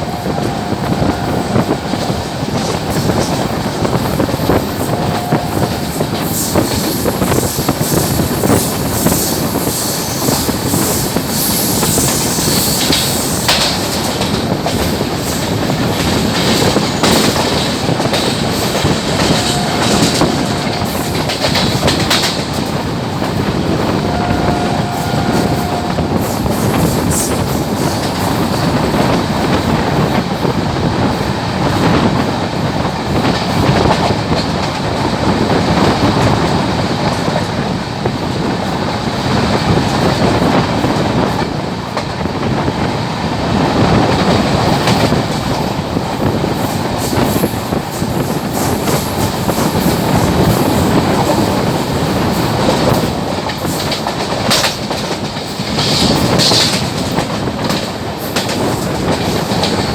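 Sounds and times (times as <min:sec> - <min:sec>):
wheels clacking over rail joints: 0:00.0 - 0:42.9, 0:43.6 - 0:59.9
train roaring past: 0:00.0 - 0:59.9.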